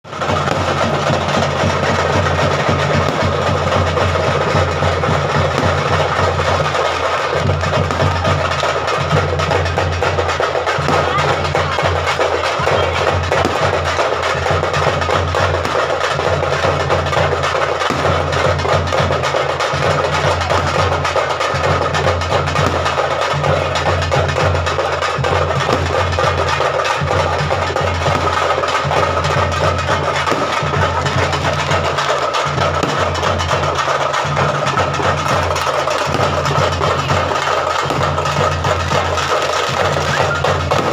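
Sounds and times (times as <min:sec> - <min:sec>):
fast dense drumming: 0:00.0 - 0:40.9
low drum beat: 0:00.0 - 0:40.9.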